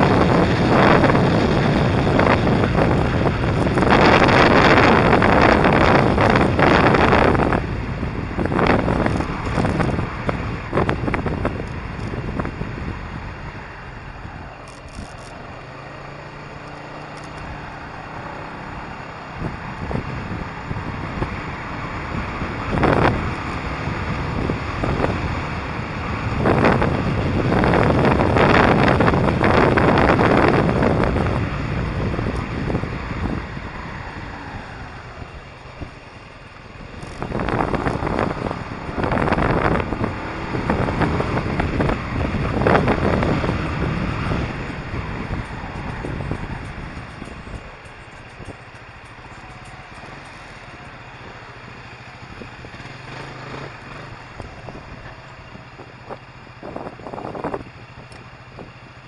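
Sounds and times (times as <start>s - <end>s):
motorcycle engine: 0.0s - 59.0s
road noise: 0.0s - 59.0s
wind buffeting microphone: 0.0s - 59.0s.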